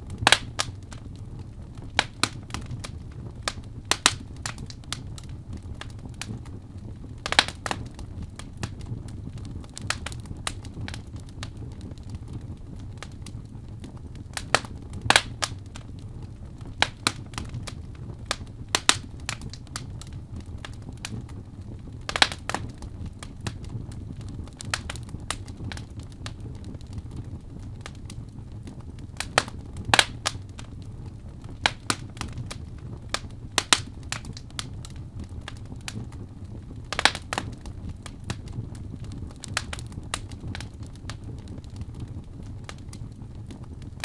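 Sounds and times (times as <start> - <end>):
low rumble of flames: 0.0 - 44.0
wood fire crackling and popping: 0.0 - 44.0.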